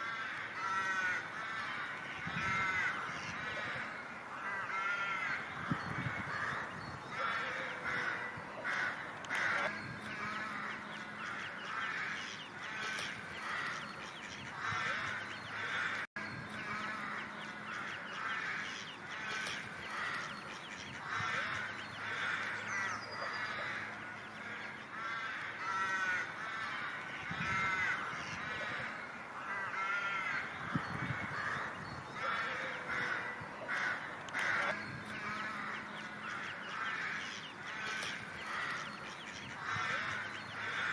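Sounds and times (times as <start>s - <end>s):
ducks quacking: 0.0s - 40.9s.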